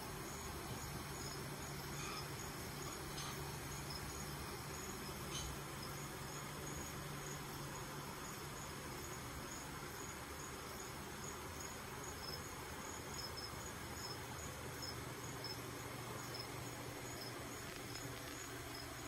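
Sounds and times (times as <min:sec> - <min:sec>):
insect chirping: 0:00.0 - 0:19.0
steady low hum: 0:00.0 - 0:19.0.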